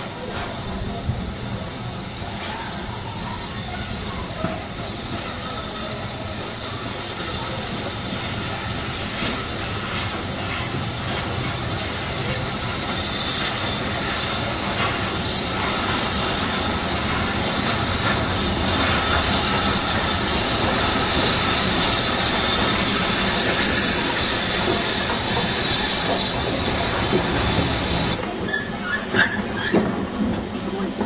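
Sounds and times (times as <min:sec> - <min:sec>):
steam hiss: 0:00.0 - 0:31.0
wheels rumbling on track: 0:00.0 - 0:31.0.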